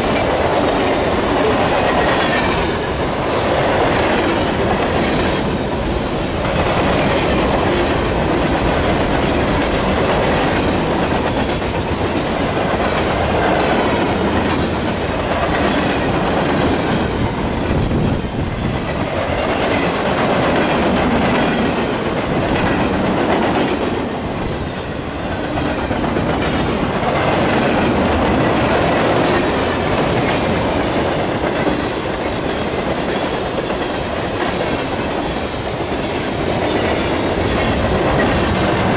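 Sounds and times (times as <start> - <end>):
train wheels clicking over rail joints: 0.0 - 38.9.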